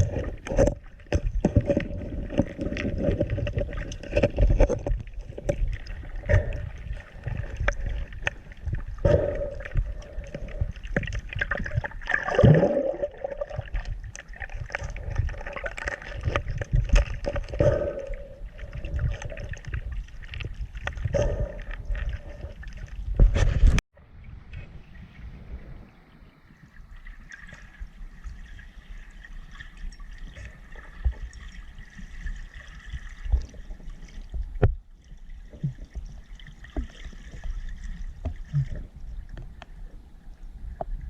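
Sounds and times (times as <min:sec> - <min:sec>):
water gurgling and sloshing: 0:00.0 - 0:41.0.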